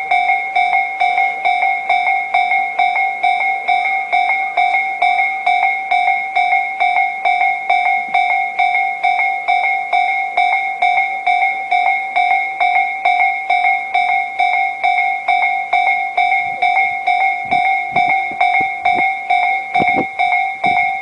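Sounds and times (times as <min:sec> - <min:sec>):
level crossing warning bell ringing: 0:00.0 - 0:21.0.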